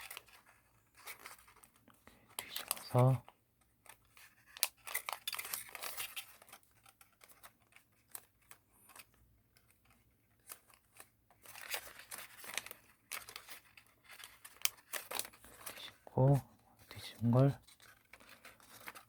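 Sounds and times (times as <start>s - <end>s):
paper crinkling and rustling: 0.0s - 19.0s.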